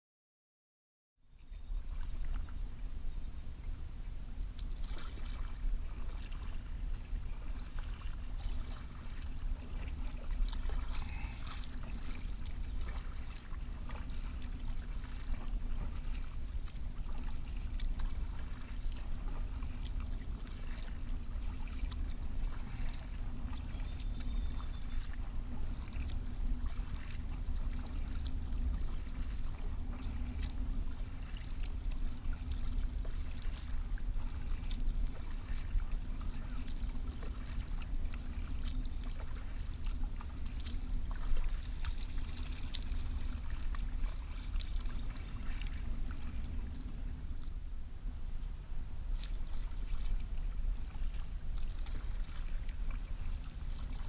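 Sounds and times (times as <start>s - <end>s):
low rumble: 1.4s - 54.0s
paddle splashing water: 1.4s - 54.0s.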